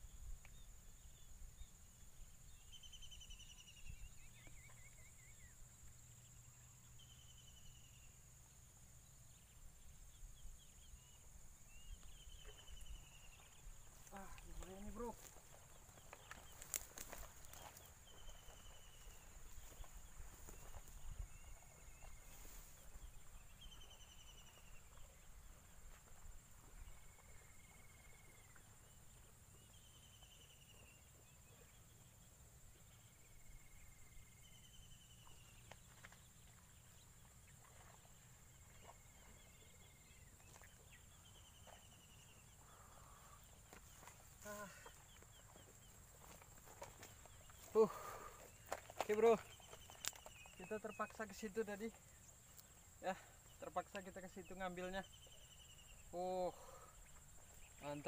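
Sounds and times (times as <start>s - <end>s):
faint bird calls: 9.3s - 58.0s.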